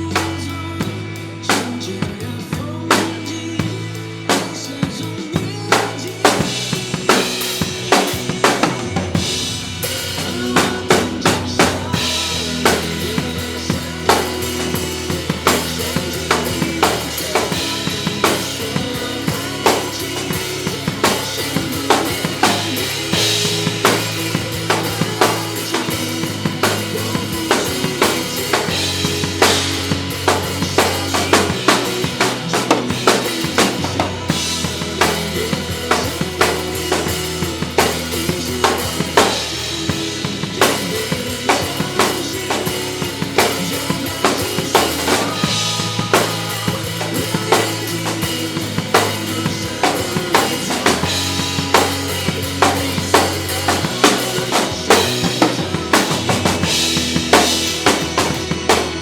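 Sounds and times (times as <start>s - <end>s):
drum kit groove: 0.0s - 59.0s
instrumental backing track: 0.0s - 59.0s.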